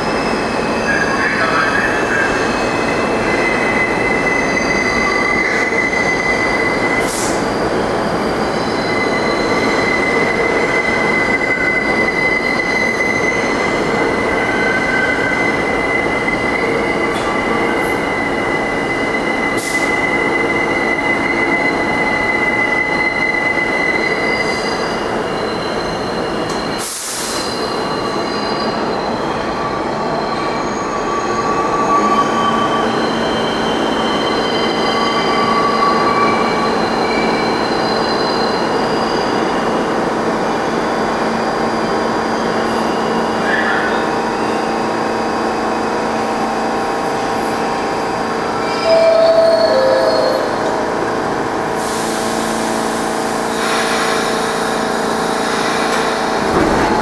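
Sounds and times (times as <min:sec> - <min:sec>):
subway train rumble: 0:00.0 - 0:57.0.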